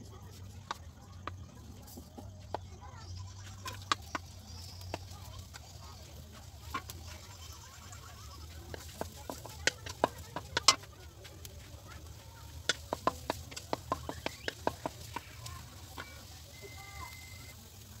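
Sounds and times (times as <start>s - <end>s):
wooden spatula scraping a wok: 3.2s - 18.0s.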